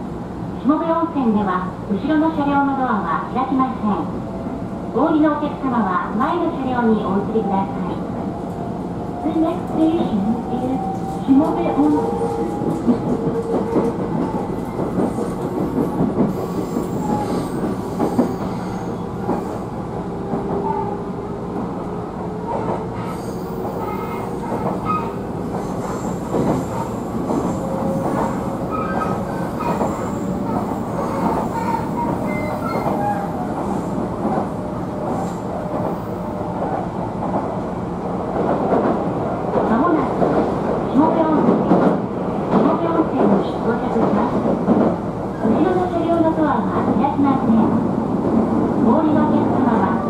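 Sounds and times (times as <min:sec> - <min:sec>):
train wheels rumbling on rails: 0:04.9 - 0:50.0.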